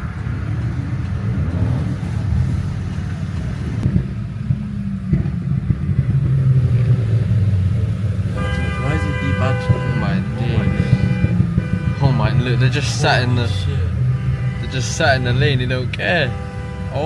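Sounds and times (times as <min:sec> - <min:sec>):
car engines revving in traffic: 0:00.0 - 0:17.0.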